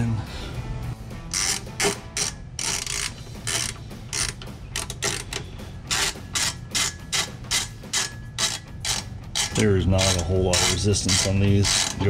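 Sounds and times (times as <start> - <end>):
socket ratchet clicking: 1.2 - 12.0.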